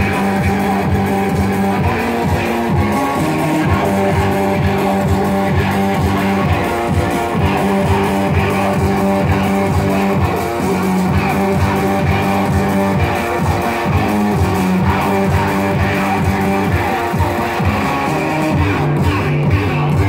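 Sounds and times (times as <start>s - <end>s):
bass guitar: 0.0s - 20.0s
electric guitar: 0.0s - 20.0s.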